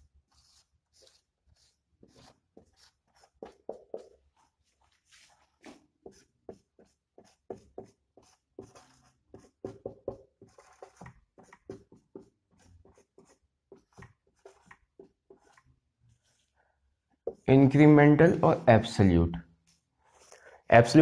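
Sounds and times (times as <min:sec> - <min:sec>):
marker writing on whiteboard: 0:00.2 - 0:21.0.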